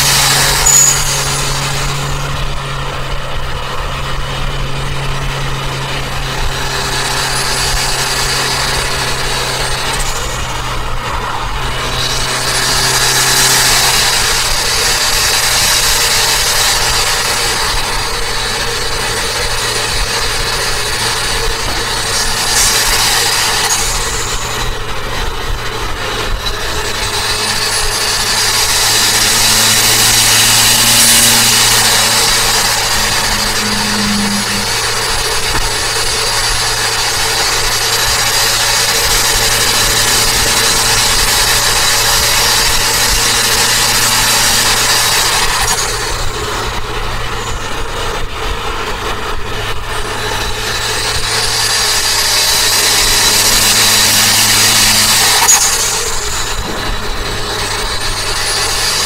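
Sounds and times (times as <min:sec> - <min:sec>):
car engine and road noise: 0:00.0 - 0:59.0
high turbo whine: 0:00.0 - 0:59.0.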